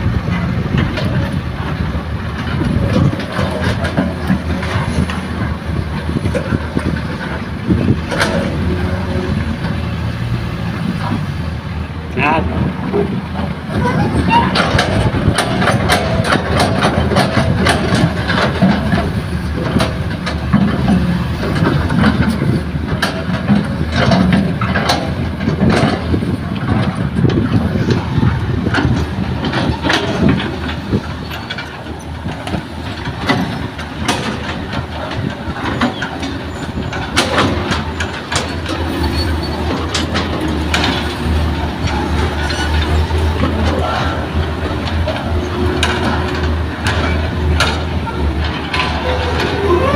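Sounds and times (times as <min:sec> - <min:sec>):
excavator clanking and knocking: 0:00.0 - 0:49.9
excavator diesel engine running: 0:00.0 - 0:49.9.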